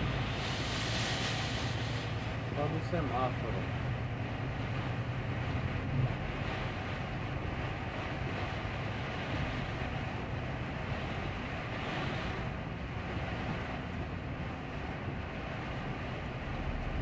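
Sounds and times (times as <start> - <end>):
diesel engine running low: 0.0 - 17.0
heavy rain and road water: 0.0 - 17.0.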